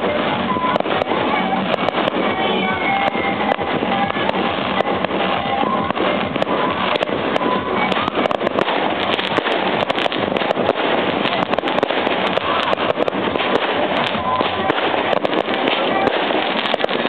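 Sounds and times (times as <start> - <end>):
fireworks bursting and crackling: 0.0 - 17.0
music: 0.0 - 17.0
noisy background: 0.0 - 17.0.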